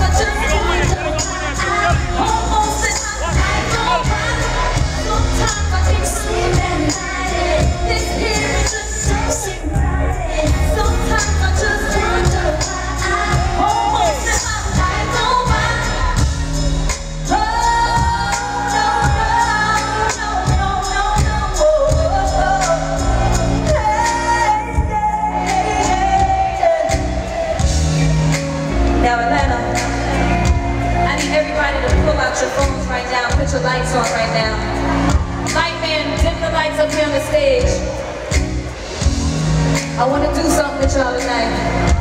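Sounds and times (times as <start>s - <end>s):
woman singing: 0.0s - 38.0s, 39.7s - 42.0s
band with drums bass keyboards: 0.0s - 42.0s.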